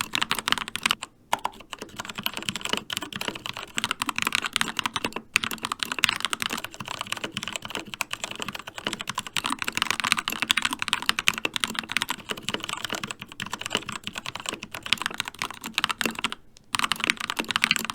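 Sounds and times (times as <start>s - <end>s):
mechanical keyboard typing: 0.0s - 17.9s.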